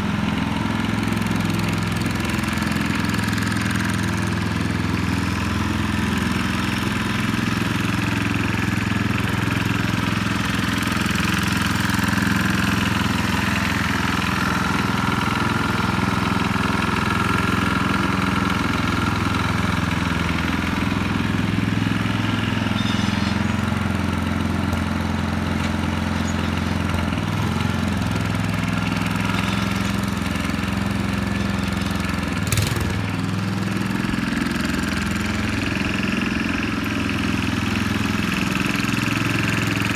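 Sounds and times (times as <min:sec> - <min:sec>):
single-cylinder engine idling: 0:00.0 - 0:39.9.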